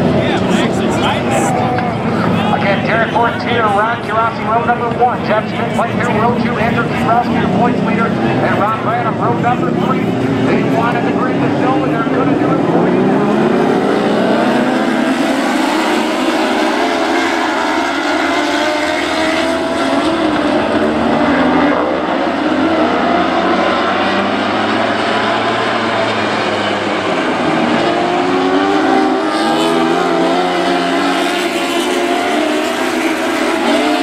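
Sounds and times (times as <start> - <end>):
racing car engines at high revs: 0.0 - 34.0.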